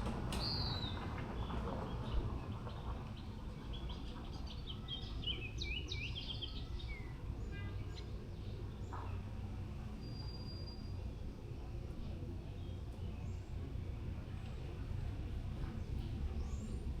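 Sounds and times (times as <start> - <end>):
low background noise: 0.0 - 17.0
songbird singing: 0.0 - 17.0.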